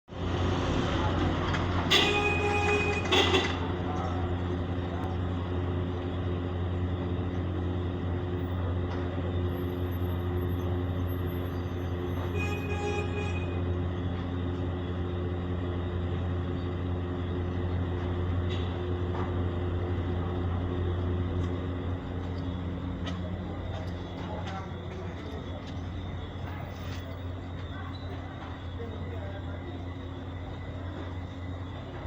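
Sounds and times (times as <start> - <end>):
low mechanical hum: 0.1 - 32.0
noisy rumble: 0.1 - 32.0.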